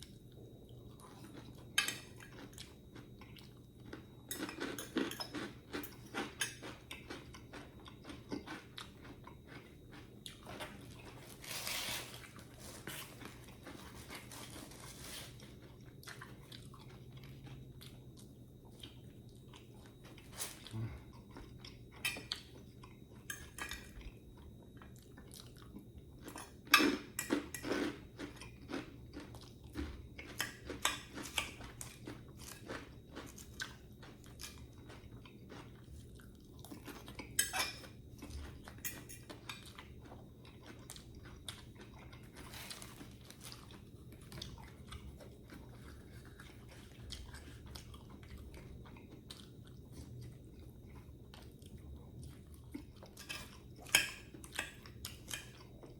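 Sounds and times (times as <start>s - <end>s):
chewing and crunching food: 0.0s - 55.9s.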